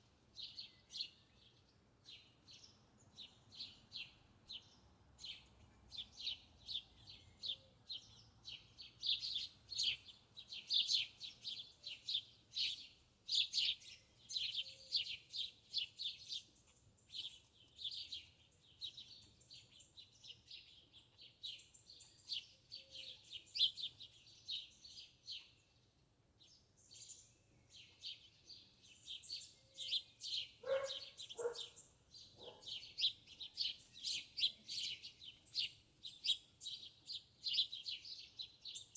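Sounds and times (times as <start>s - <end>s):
small birds chirping: 0.3s - 38.9s.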